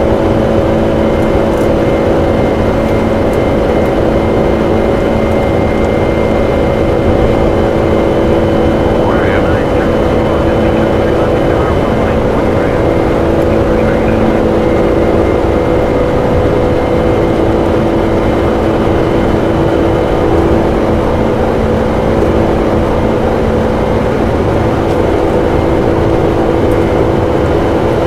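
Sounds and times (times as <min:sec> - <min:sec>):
aircraft engine roar: 0:00.0 - 0:28.0
constant hum tones: 0:00.0 - 0:28.0.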